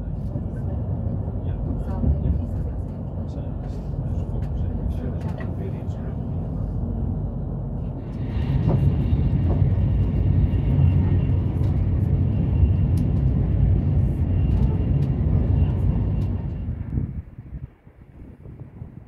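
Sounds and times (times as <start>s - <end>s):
train wheels rumbling on rails: 0.0s - 17.8s.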